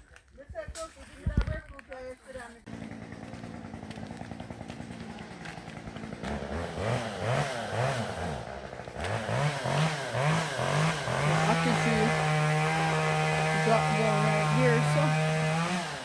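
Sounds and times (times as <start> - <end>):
small petrol engine revving: 2.6 - 16.0.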